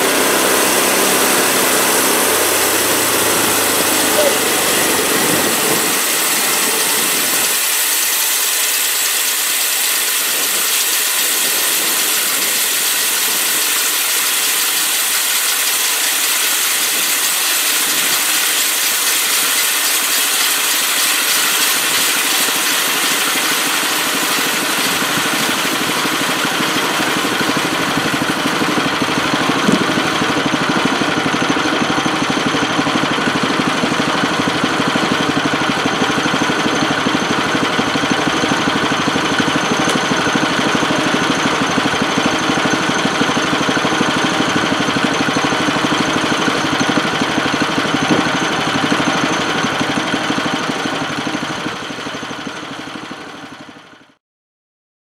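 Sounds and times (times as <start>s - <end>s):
bandsaw mill sawing log: 0.0s - 54.1s.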